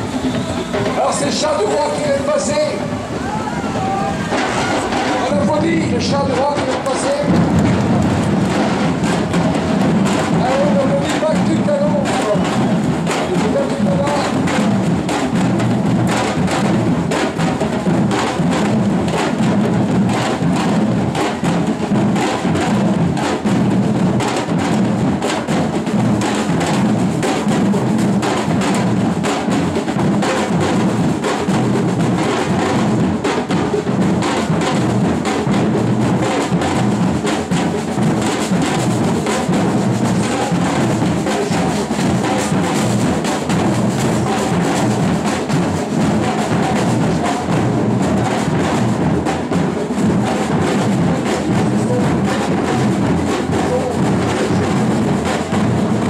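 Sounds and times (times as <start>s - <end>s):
street percussion band drumming: 0.0s - 56.0s.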